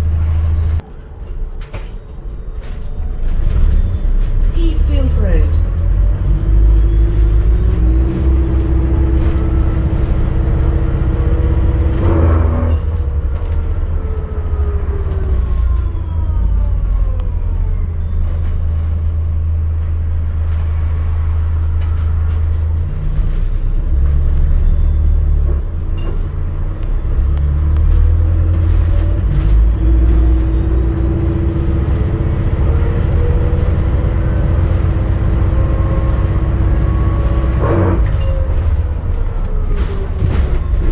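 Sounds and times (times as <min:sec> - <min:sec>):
bus engine rumble and whine: 0:00.0 - 0:40.9.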